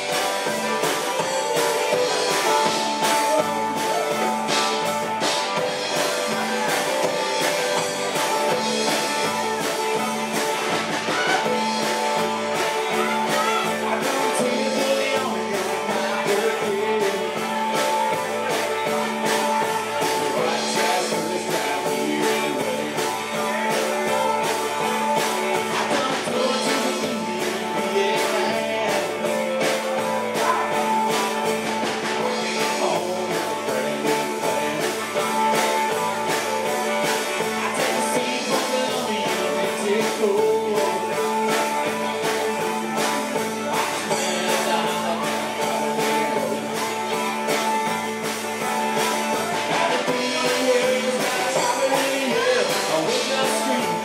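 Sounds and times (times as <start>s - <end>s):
bass guitar: 0.0s - 54.0s
drum kit beat: 0.0s - 54.0s
electric guitars: 0.0s - 54.0s
person singing: 0.0s - 54.0s.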